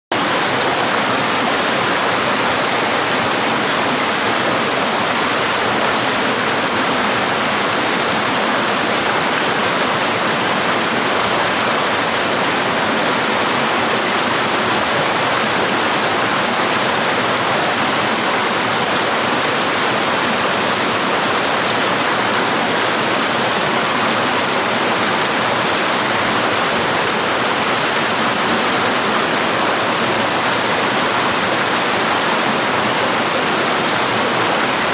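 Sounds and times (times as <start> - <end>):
waterfall and stream rushing: 0.1 - 34.9.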